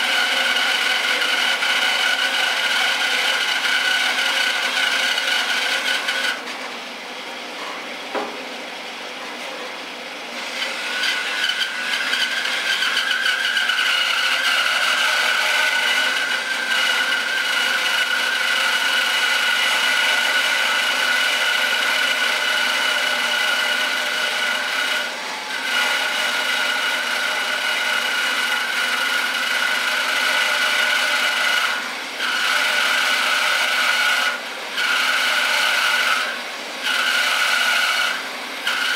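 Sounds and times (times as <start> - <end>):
bandsaw cutting wood: 0.0 - 6.6, 10.4 - 38.9.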